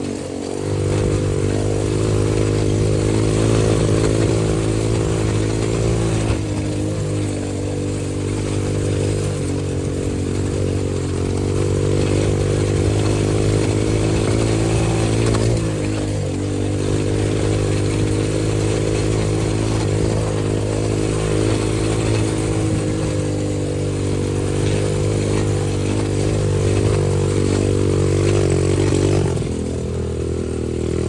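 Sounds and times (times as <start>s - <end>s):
dirt bike engine under throttle: 0.0s - 31.0s.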